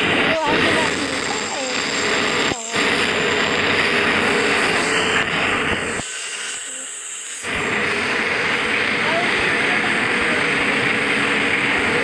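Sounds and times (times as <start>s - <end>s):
train rumbling: 0.0s - 6.1s, 7.4s - 12.0s.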